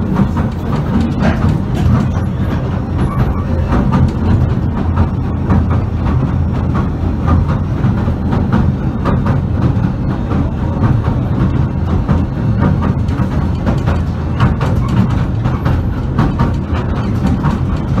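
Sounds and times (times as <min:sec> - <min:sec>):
train rumble inside carriage: 0:00.0 - 0:18.0
wheels clattering on rails: 0:00.0 - 0:18.0.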